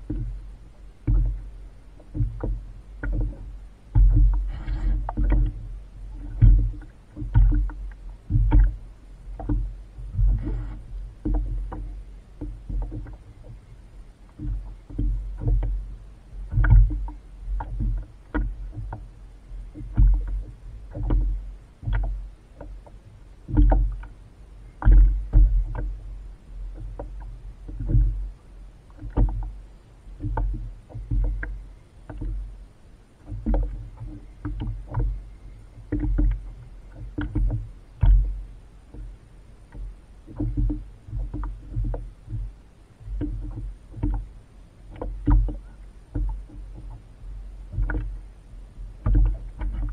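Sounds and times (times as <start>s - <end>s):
water slapping kayak hull: 0.0s - 49.9s.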